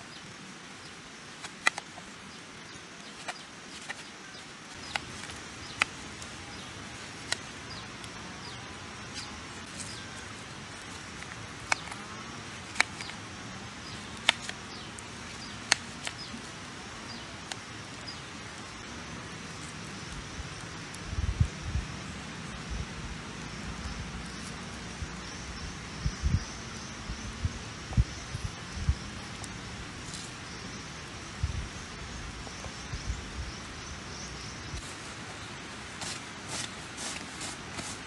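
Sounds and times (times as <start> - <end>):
outdoor forest background: 0.0 - 38.0.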